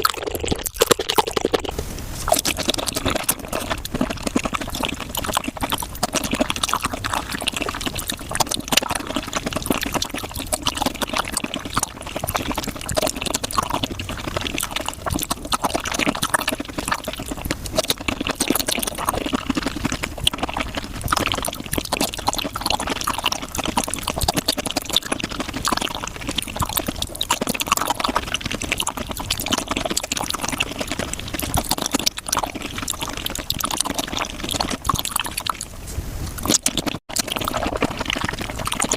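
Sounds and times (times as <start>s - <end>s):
wet chewing and slurping: 0.0s - 38.9s.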